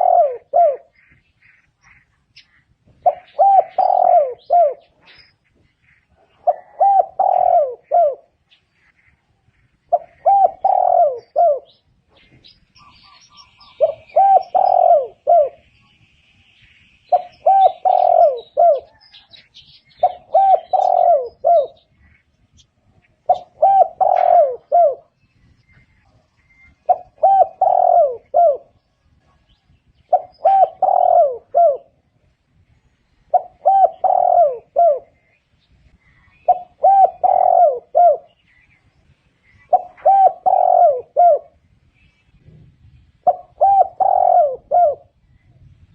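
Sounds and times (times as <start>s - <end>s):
dove cooing: 0.0s - 16.0s, 17.1s - 32.4s, 33.1s - 41.6s, 42.3s - 45.9s
small birds chirping: 0.0s - 45.9s.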